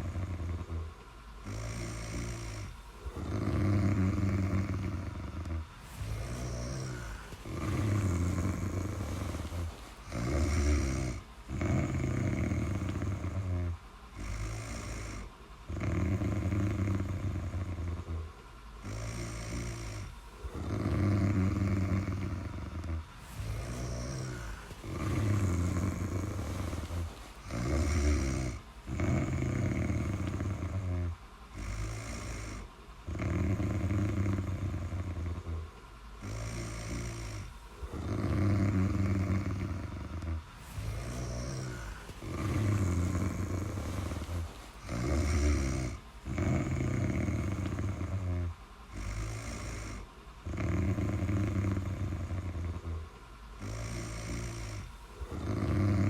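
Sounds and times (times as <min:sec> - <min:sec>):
person snoring: 0:00.0 - 0:56.0.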